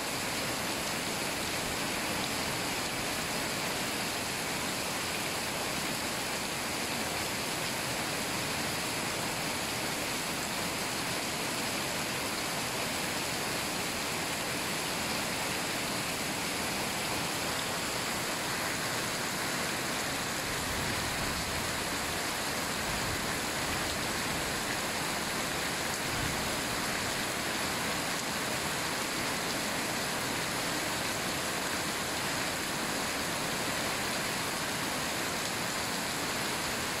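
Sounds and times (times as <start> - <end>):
heavy rain on foliage: 0.0 - 37.0.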